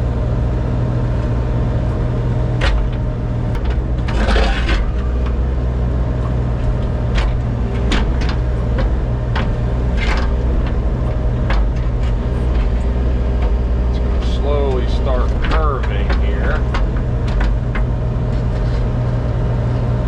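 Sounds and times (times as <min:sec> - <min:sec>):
earthmoving machine engine running: 0:00.0 - 0:20.0.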